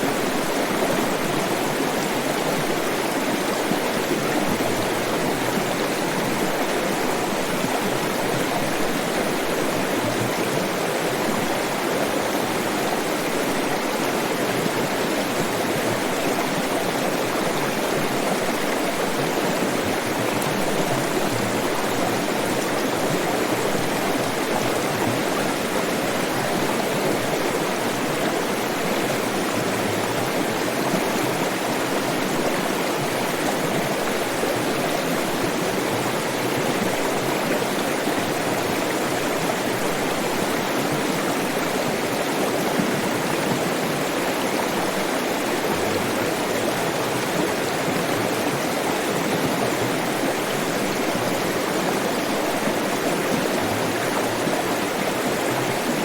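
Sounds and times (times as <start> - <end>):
stream water rushing and gurgling: 0.0 - 56.0.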